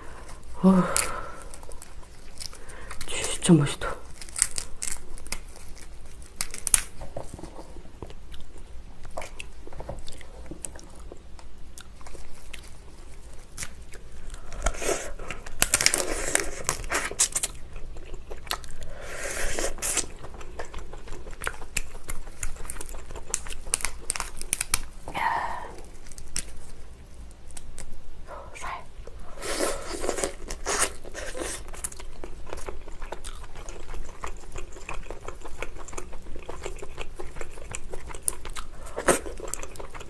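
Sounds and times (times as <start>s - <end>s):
chewing and crunching: 0.0s - 25.1s, 25.8s - 28.0s, 29.4s - 40.0s.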